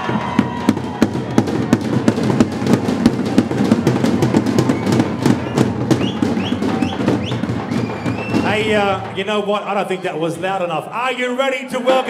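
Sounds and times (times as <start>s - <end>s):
drums beating fast rhythm: 0.0s - 12.0s.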